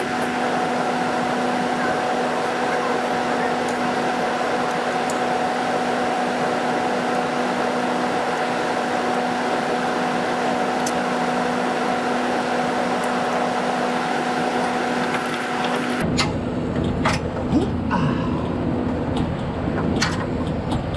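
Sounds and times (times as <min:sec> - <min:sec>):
air conditioner fan running: 0:00.0 - 0:20.9.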